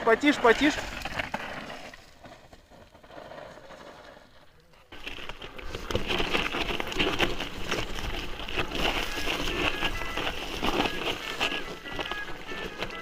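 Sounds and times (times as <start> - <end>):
bike rattling: 0.0 - 13.0
bike tyres crunching over stones: 0.0 - 13.0.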